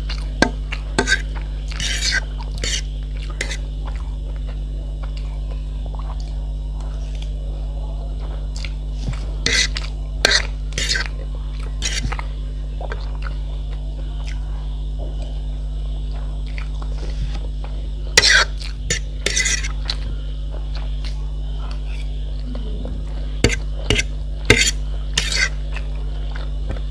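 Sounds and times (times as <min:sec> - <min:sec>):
person chewing food: 0:00.0 - 0:07.4, 0:08.2 - 0:14.4, 0:16.0 - 0:26.9
steady low hum: 0:00.0 - 0:26.9.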